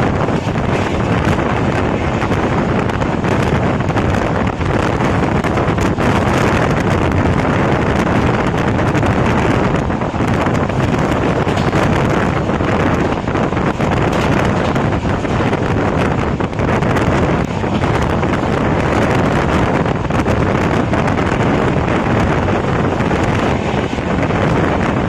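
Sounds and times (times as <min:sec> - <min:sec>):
train wheel and track noise: 0:00.0 - 0:25.0
wind buffeting microphone: 0:00.0 - 0:25.0.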